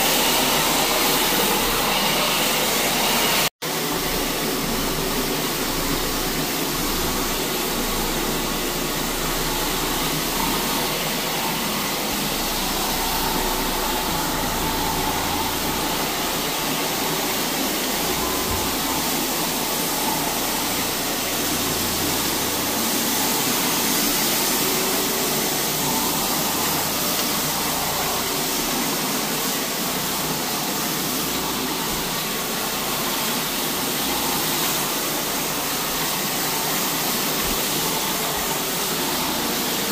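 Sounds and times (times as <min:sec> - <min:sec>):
floor machine scrubbing carpet: 0:00.0 - 0:39.9.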